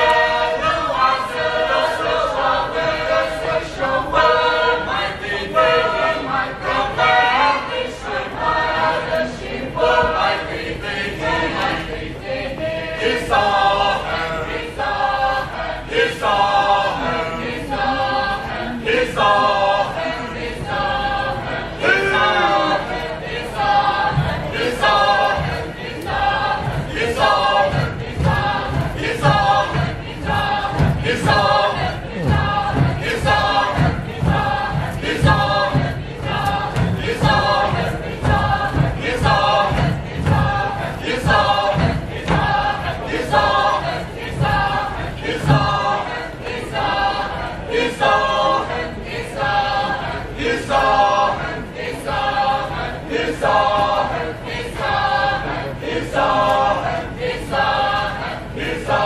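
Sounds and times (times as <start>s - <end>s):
group of voices singing: 0.0s - 59.0s.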